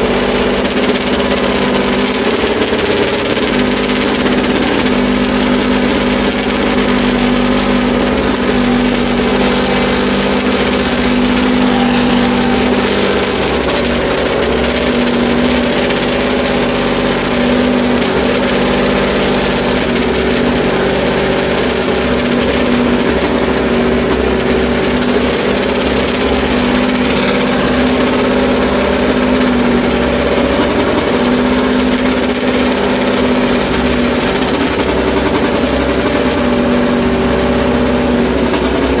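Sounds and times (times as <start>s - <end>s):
racing engine idling: 0.0s - 39.0s.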